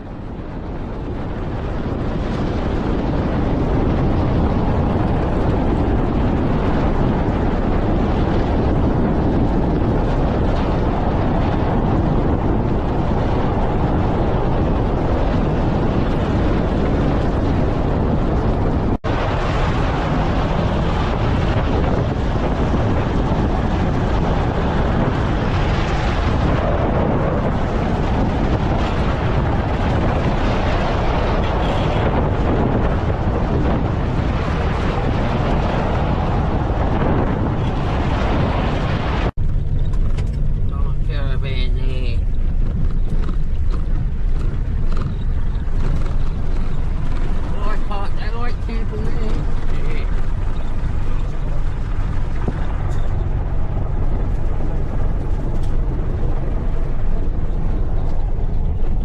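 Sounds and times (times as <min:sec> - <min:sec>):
campfire burning: 0:00.0 - 0:59.0.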